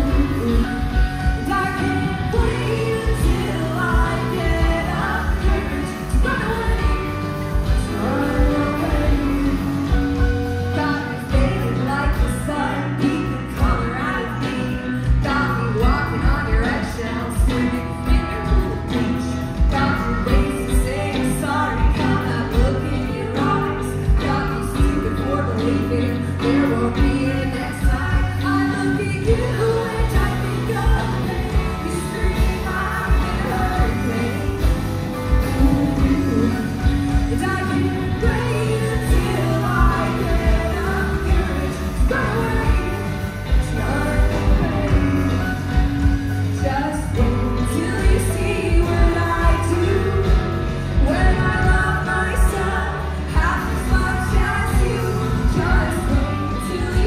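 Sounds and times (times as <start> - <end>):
bass guitar: 0.0 - 57.0
electric guitar: 0.0 - 57.0
keyboard: 0.0 - 57.0
live rock band playing: 0.0 - 57.0
woman singing: 0.0 - 57.0.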